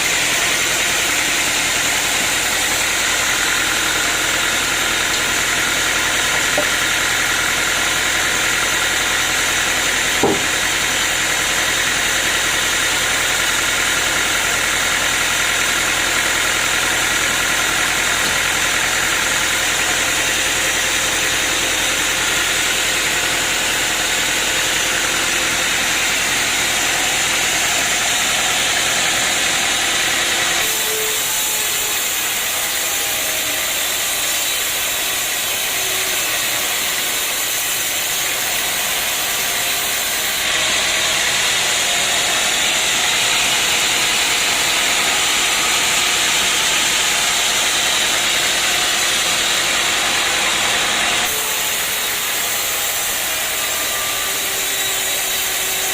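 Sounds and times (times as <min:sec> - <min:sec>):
sawmill machinery rushing noise: 0:00.0 - 0:55.9.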